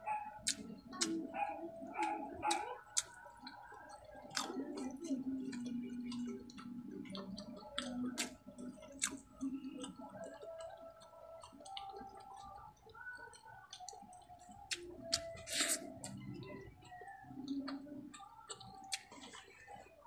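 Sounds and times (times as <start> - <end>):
wet chewing and mouth smacks: 0.4 - 1.4, 2.0 - 20.0
food squishing by hand: 0.4 - 20.0.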